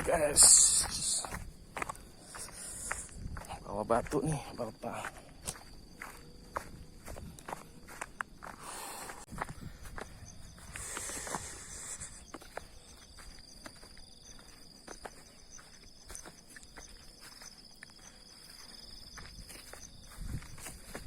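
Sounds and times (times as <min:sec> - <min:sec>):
footsteps on ground: 0:00.0 - 0:21.0
insects trilling: 0:00.0 - 0:21.0.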